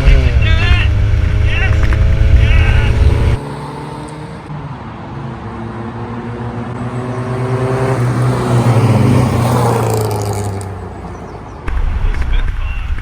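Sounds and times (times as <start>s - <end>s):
race cars accelerating past: 0.0s - 11.6s.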